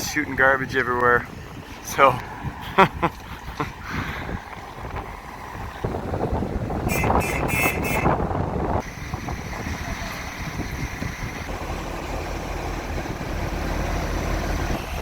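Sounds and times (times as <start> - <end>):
bus engine rumble: 0.0 - 15.0
wind gusting on microphone: 0.0 - 15.0.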